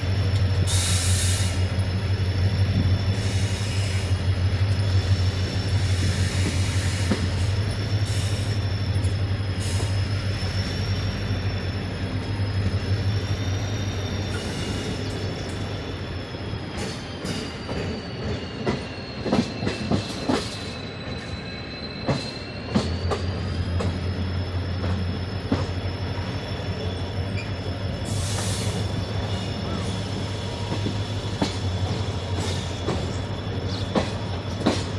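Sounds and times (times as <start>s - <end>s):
train rumble and hum: 0.0s - 34.9s.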